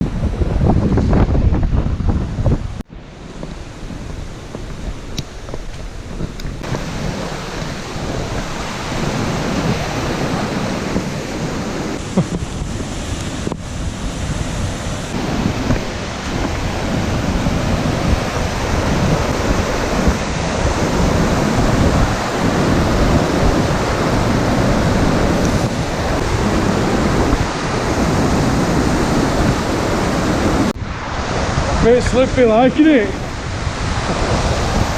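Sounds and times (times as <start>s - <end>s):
wind buffeting microphone: 0.0s - 34.9s
waterfall rushing: 6.6s - 34.9s.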